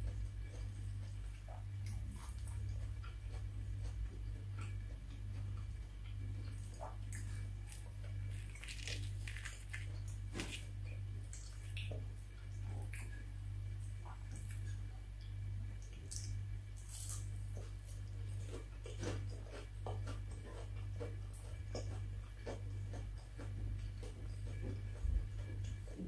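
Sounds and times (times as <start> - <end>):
crunchy fried food crackles: 0.0 - 26.0
steady low hum: 0.0 - 26.0.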